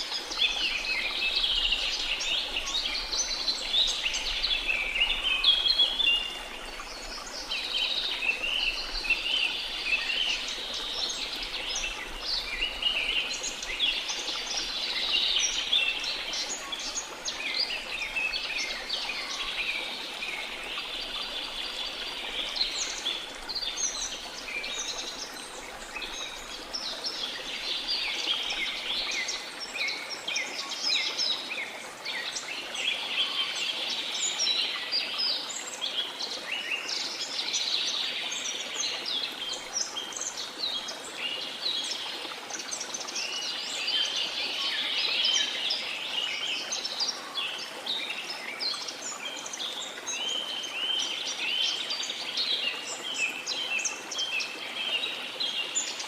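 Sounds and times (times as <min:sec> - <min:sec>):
faint flowing water: 0:00.0 - 0:56.0
forest birds chirping and trilling: 0:00.0 - 0:56.0.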